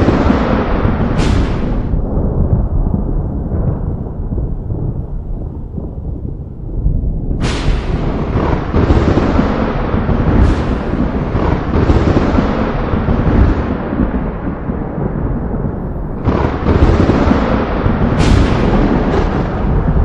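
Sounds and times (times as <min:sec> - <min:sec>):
sharp thunder cracks: 0:00.0 - 0:20.0
thunder rumbling: 0:00.0 - 0:20.0.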